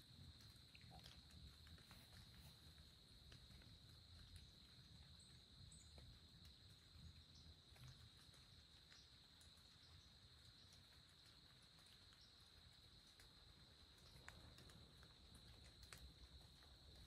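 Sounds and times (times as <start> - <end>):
faint insect drone: 0.0 - 17.0
faint ticks: 0.0 - 17.0.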